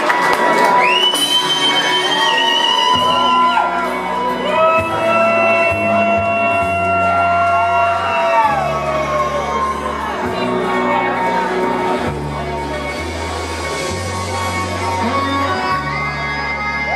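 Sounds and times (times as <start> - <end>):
crowd shouting and whooping: 0.0 - 16.9
rock band playing: 0.0 - 16.9.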